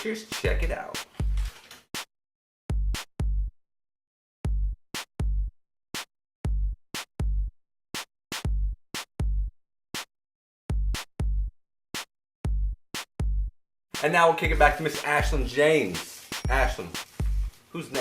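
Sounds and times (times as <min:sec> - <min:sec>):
sparse drum-machine beat: 0:00.0 - 0:02.1, 0:02.7 - 0:03.5, 0:04.5 - 0:10.1, 0:10.7 - 0:18.0.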